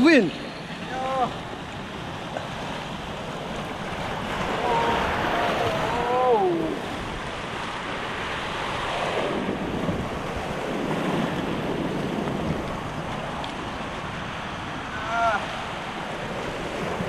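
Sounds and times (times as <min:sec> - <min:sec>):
surf washing over rocks: 0:00.0 - 0:17.0
wind buffeting microphone: 0:00.3 - 0:17.0.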